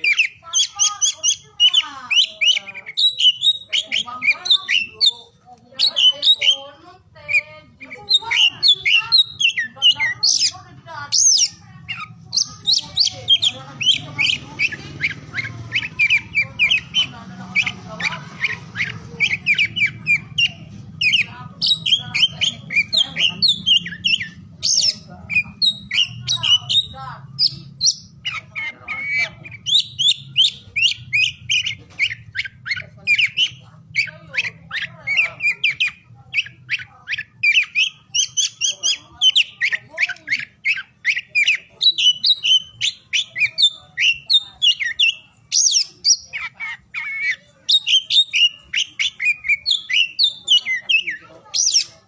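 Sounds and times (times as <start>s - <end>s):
bird singing varied chirps: 0.0s - 52.0s.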